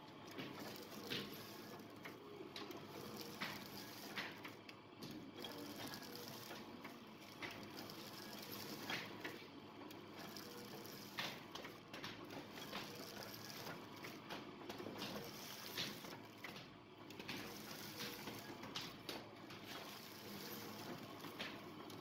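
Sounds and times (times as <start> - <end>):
packing machine hum: 0.0 - 22.0
sharp mechanical clicks: 0.1 - 22.0.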